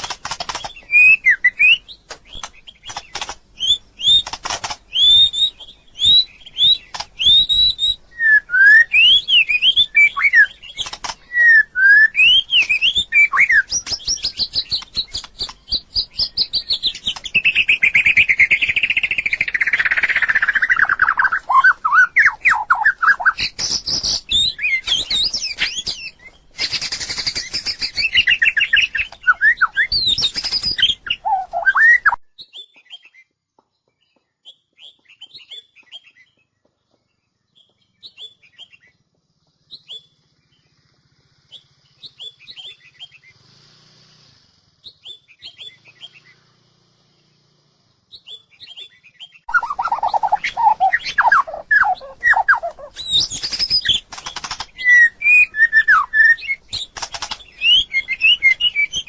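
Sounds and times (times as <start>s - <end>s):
faint bird chirps: 0.0s - 43.5s, 44.8s - 59.0s
bird singing whistled phrases: 0.6s - 4.3s, 4.9s - 33.2s, 34.4s - 36.3s, 38.0s - 38.9s, 39.7s - 40.2s, 41.5s - 43.3s, 44.8s - 46.4s, 48.1s - 59.0s.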